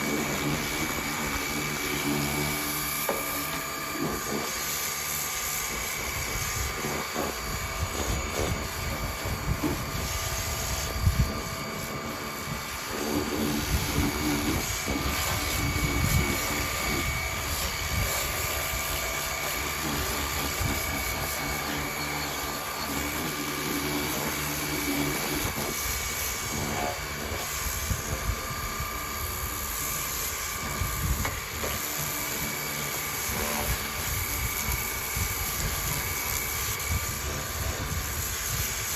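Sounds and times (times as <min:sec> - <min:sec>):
pressure washer spraying metal: 0:00.0 - 0:38.9
thin steady whine: 0:00.0 - 0:38.9.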